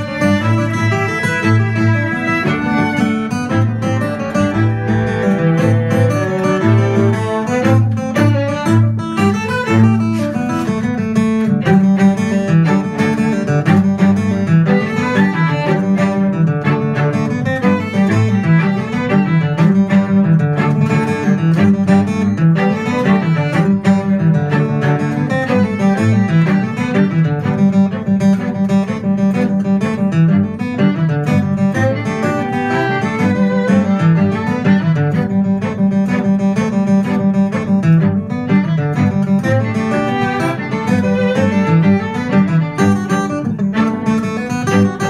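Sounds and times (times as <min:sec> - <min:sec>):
acoustic guitar plucking: 0:00.0 - 0:45.0
bowed strings: 0:00.0 - 0:45.0
cello line: 0:00.0 - 0:45.0.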